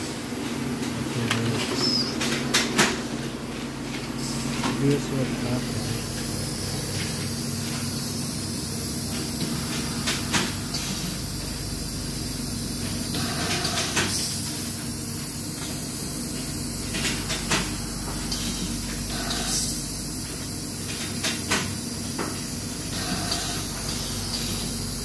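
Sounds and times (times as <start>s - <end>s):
steam sterilizer humming: 0.0s - 25.0s.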